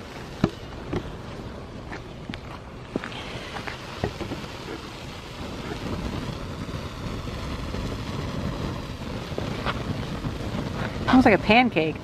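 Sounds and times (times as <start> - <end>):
fire crackles: 0.0 - 12.0
flames rushing rumble: 0.0 - 12.0.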